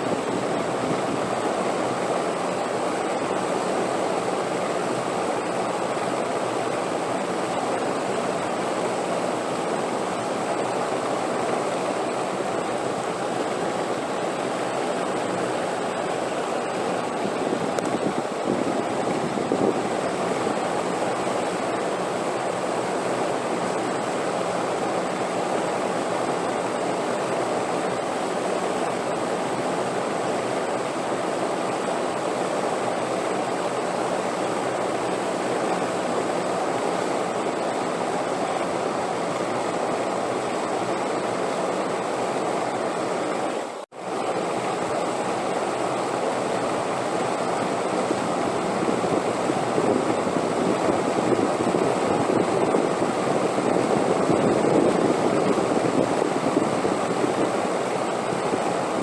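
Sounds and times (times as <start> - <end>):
steady wind noise: 0.0 - 59.0.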